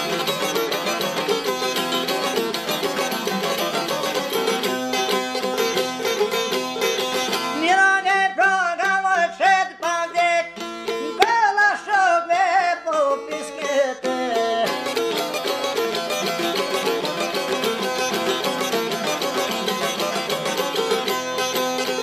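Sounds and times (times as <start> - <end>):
plucked lutes playing folk music: 0.0 - 22.0.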